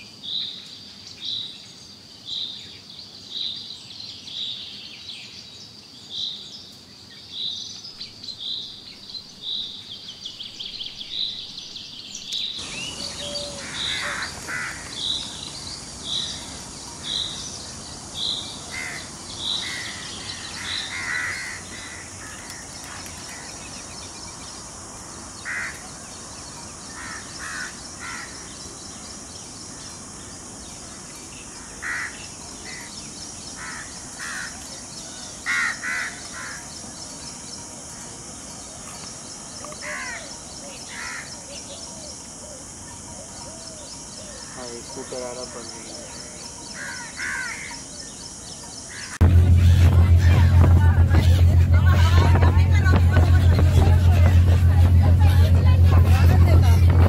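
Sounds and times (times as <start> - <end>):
high outdoor hiss: 0.0 - 57.0
bird calls: 7.4 - 37.8, 38.5 - 54.9.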